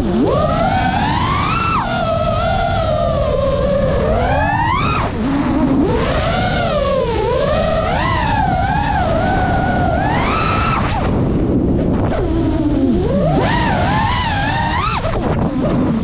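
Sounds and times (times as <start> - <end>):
drone propellers whining: 0.0 - 16.0
wind rushing: 0.2 - 16.0.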